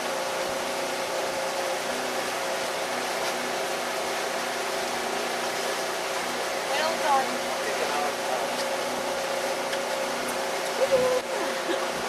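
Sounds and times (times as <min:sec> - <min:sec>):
outboard motor running: 0:00.0 - 0:12.0
wind and water rushing: 0:00.0 - 0:12.0.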